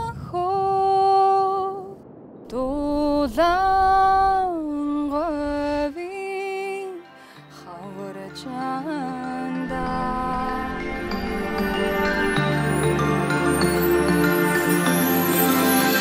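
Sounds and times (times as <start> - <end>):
woman singing long held notes: 0.0 - 12.9.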